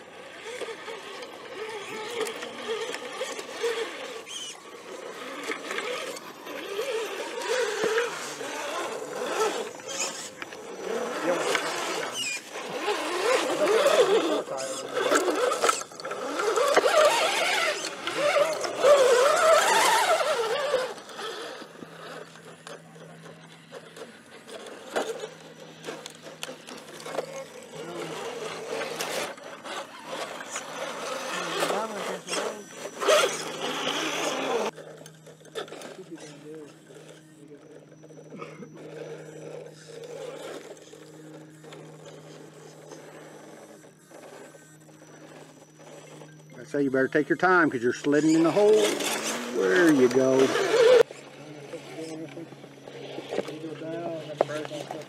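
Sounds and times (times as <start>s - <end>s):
electric motor and gears whining: 0.0s - 55.0s
tyres scraping on rock: 0.3s - 55.0s.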